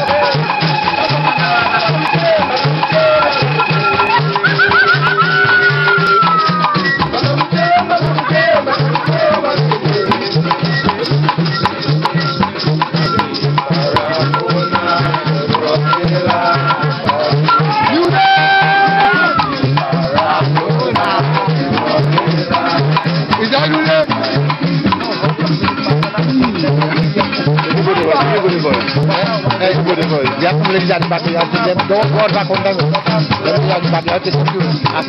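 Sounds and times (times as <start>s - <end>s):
people singing: 0.0s - 35.0s
rattling hand percussion: 0.0s - 35.0s
strummed cuatro: 0.0s - 35.0s.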